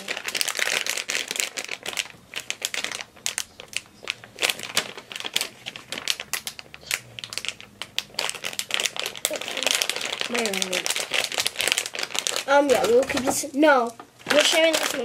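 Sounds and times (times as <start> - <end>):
foil packet crinkling: 0.0 - 15.0.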